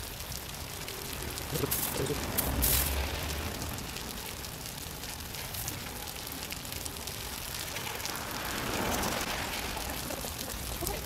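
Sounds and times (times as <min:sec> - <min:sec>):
fine steady crackle: 0:00.0 - 0:11.0.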